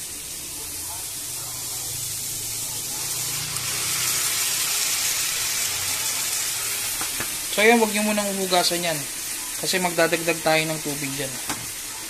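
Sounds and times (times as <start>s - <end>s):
sauce sizzling in a hot pan: 0.0s - 12.0s.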